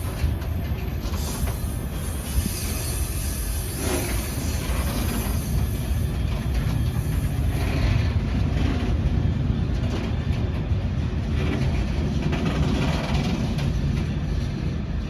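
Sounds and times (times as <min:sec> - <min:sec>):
freight train passing: 0:00.0 - 0:15.0.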